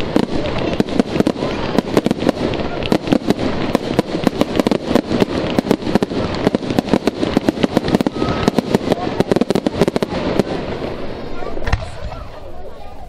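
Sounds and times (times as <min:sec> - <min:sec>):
fireworks popping and banging: 0:00.0 - 0:12.5
fireworks crackling: 0:00.0 - 0:13.0.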